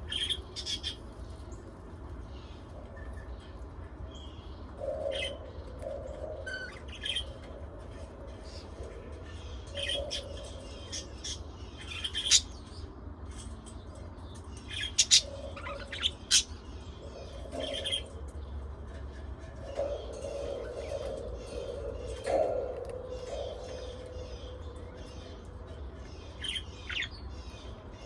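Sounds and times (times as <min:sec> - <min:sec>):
parrots chirping and squawking: 0:00.0 - 0:01.5, 0:02.3 - 0:13.6, 0:14.4 - 0:28.0.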